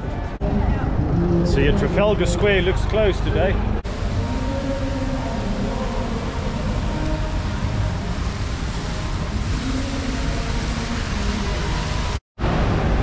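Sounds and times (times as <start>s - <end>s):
cars and buses passing: 0.0s - 13.0s
low traffic rumble: 0.0s - 13.0s.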